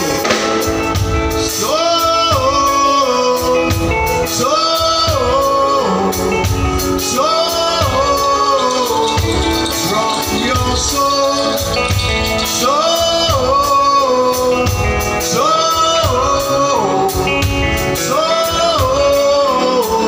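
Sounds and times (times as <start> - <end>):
live band with steady beat: 0.0 - 20.0
man singing into microphone: 0.0 - 20.0.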